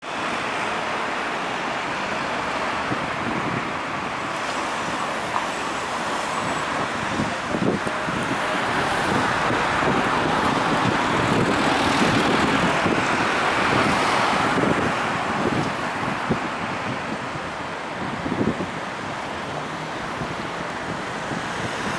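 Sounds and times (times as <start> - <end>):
road traffic passing: 0.0 - 21.9.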